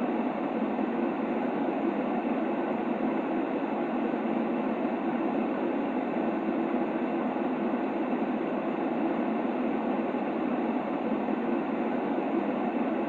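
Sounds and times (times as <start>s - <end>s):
steady white noise: 0.0s - 13.0s.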